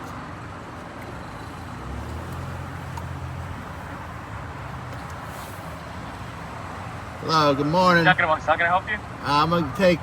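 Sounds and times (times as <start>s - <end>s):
car engine hum from inside: 0.0s - 8.3s.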